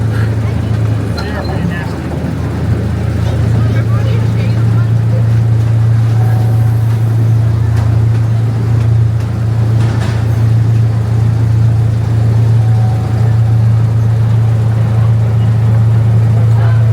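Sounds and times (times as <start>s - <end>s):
miniature train engine drone: 0.0s - 16.9s.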